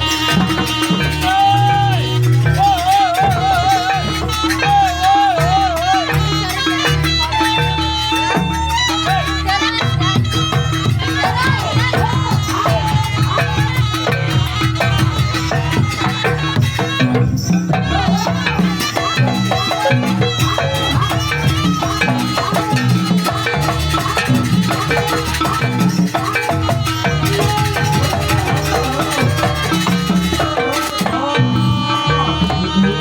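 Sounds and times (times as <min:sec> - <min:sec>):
driving drums and percussion: 0:00.0 - 0:33.0
reedy wind instrument melody: 0:00.0 - 0:33.0.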